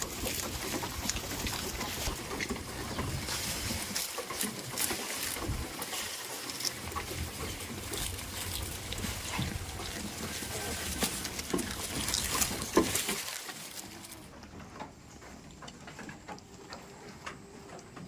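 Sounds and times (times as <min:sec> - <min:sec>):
goats rustling: 0:00.0 - 0:18.0.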